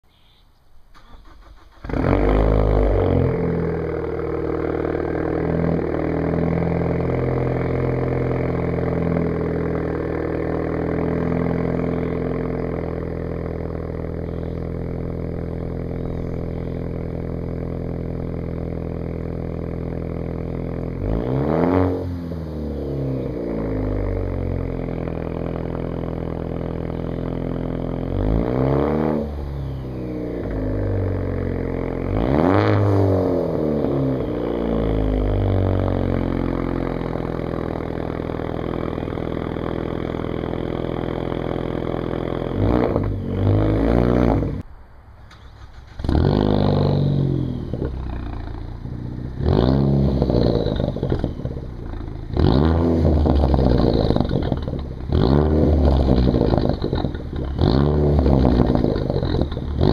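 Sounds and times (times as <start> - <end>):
car engine revving and idling: 1.0 - 59.9.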